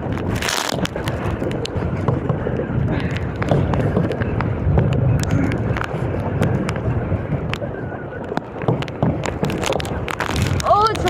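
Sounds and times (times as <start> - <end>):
water splashing and dripping: 0.0 - 11.0
wind buffeting microphone: 0.0 - 11.0.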